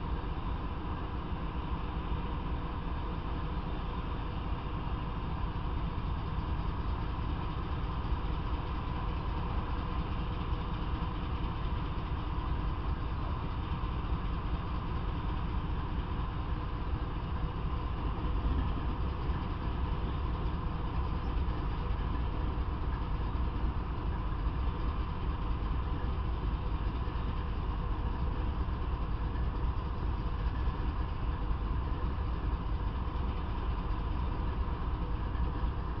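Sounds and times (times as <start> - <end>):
diesel locomotive idling: 0.0 - 36.0.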